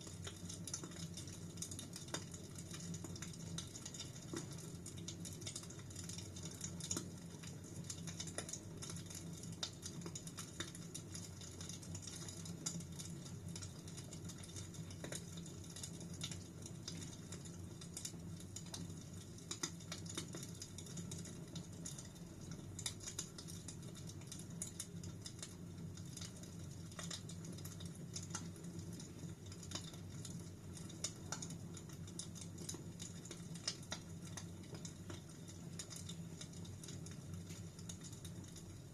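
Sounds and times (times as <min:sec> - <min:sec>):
fire crackles and pops: 0:00.0 - 0:38.9
low rumble of flames: 0:00.0 - 0:38.9.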